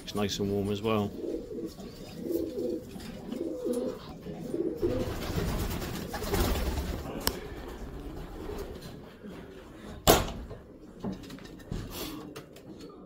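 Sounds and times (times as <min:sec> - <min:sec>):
pigeons cooing: 0:00.8 - 0:13.0.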